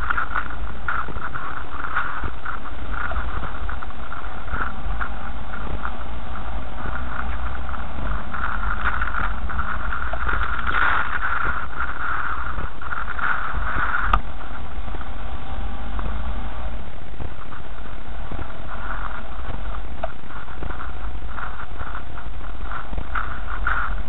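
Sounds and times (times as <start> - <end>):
car rumbling on dirt track: 0.0 - 24.0.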